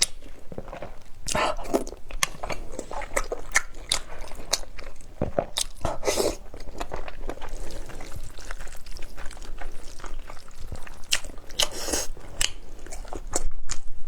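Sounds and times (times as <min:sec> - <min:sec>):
crisp bites and chewing: 0:00.0 - 0:13.9.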